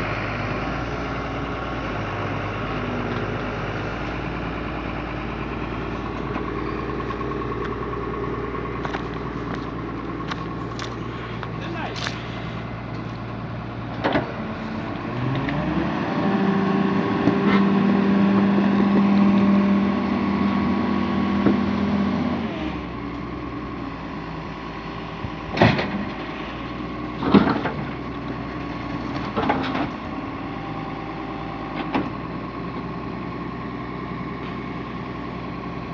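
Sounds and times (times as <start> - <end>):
engine revving and idling: 0.0 - 35.9.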